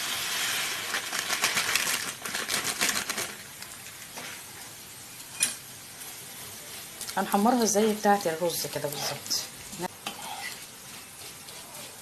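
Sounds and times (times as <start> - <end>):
noodles sizzling in hot oil: 0.0 - 12.0.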